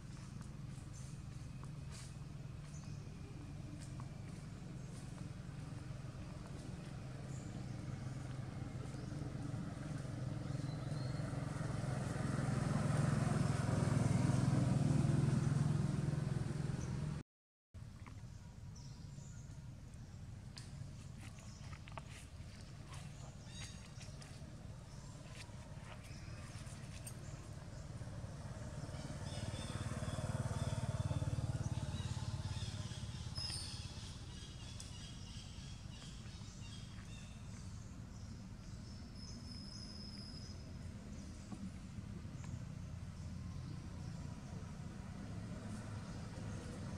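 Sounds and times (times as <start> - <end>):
vehicle engine passing: 0.0 - 17.2, 20.6 - 39.0, 40.1 - 46.9.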